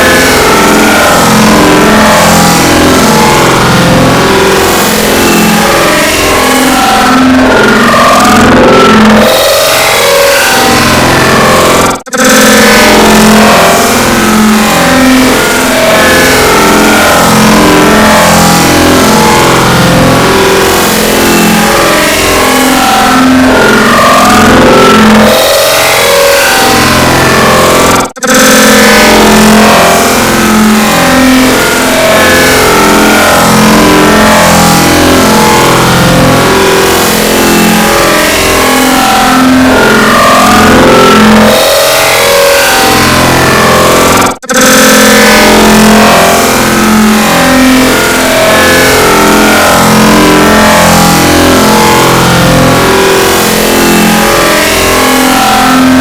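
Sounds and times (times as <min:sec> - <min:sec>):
harsh distorted buzzing drone: 0:00.0 - 0:56.0.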